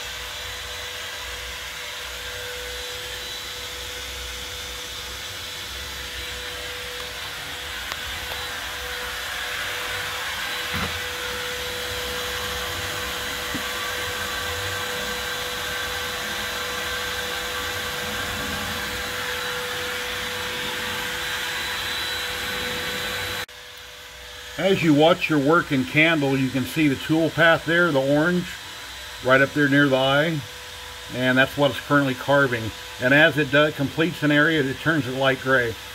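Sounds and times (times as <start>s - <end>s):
bit cutting wood: 0.0s - 35.9s
router spindle whining: 0.0s - 35.9s.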